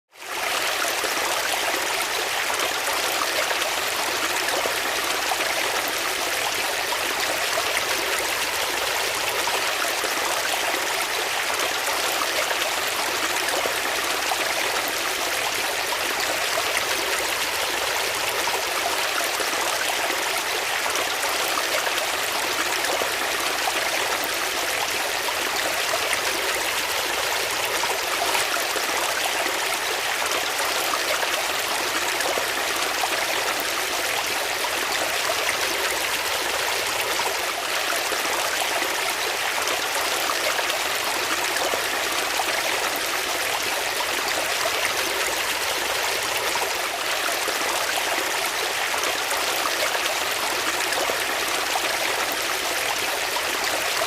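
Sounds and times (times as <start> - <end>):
stream water rushing and babbling: 0.1 - 54.0.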